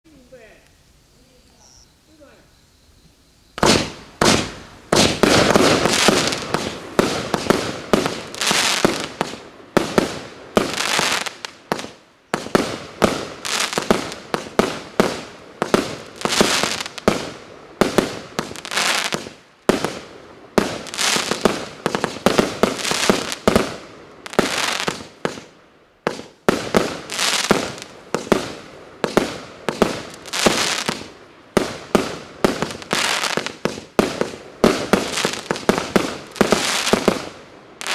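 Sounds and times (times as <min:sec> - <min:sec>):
fireworks bangs and crackle: 0:03.6 - 0:37.9.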